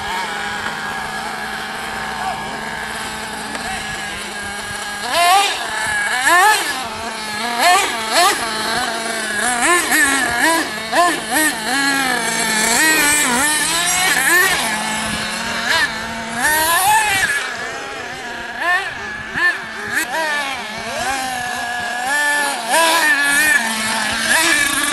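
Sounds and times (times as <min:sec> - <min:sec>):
rc buggy engine revving: 0:00.0 - 0:24.9.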